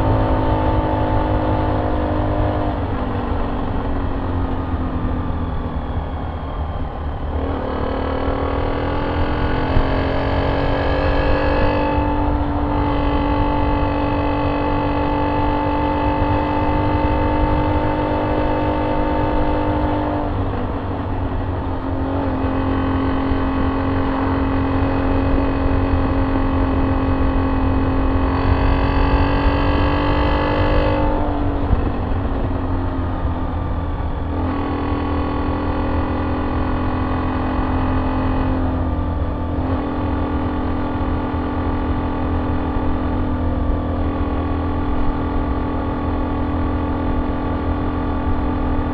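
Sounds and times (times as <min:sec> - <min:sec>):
motorcycle engine running: 0:00.0 - 0:48.9
wind rumble: 0:00.0 - 0:48.9.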